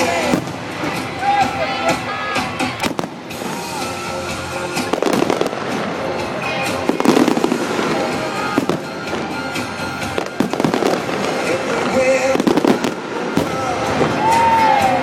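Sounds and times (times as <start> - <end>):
fireworks bangs: 0.0 - 1.6, 2.7 - 15.0
fireworks crackling: 0.0 - 15.0
song playing: 0.0 - 15.0.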